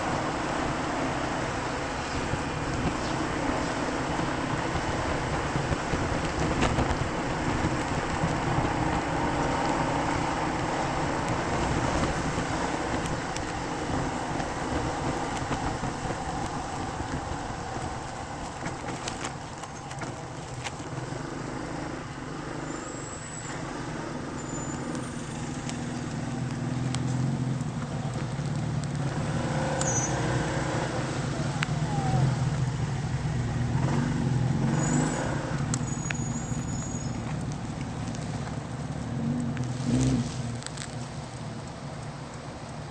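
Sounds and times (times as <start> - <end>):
road traffic noise: 0.0 - 42.9.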